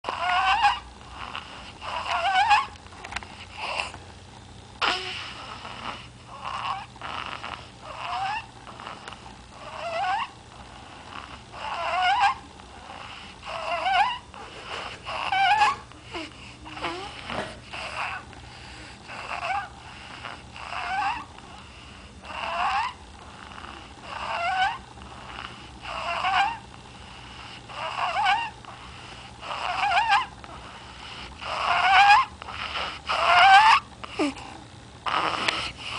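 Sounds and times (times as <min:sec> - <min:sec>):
baby snoring: 0:00.0 - 0:02.7, 0:03.3 - 0:04.0, 0:04.8 - 0:35.9.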